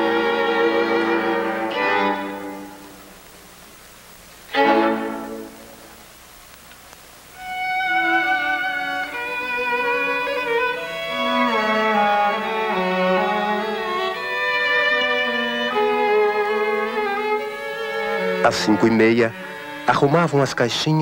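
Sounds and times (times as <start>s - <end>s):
violin melody: 0.0s - 3.1s, 4.5s - 5.9s, 7.4s - 21.0s.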